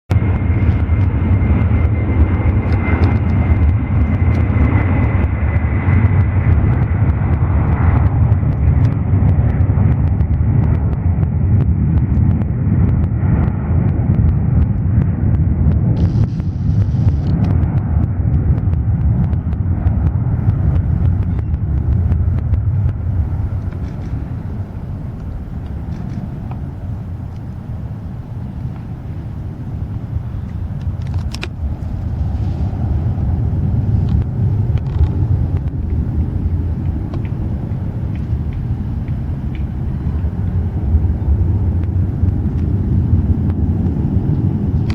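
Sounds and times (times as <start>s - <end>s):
jet engine high whine: 0.1s - 44.9s
jet engine rumble: 0.1s - 44.9s.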